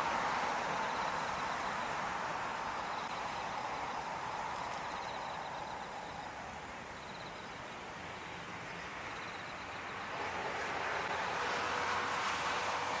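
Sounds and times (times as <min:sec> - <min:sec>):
distant jet engines hissing: 0:00.0 - 0:13.0.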